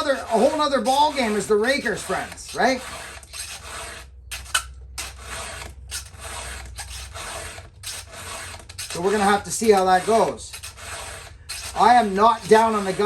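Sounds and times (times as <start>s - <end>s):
hand file rasping on chain: 0.0s - 13.0s.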